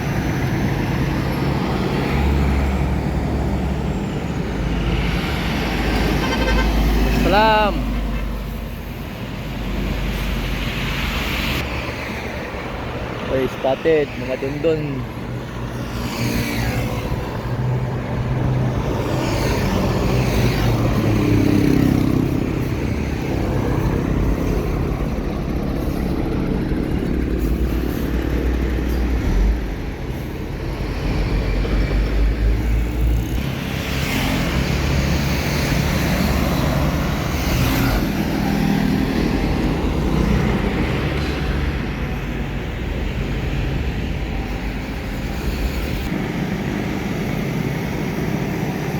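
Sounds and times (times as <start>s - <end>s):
trucks passing by: 0.0s - 48.9s.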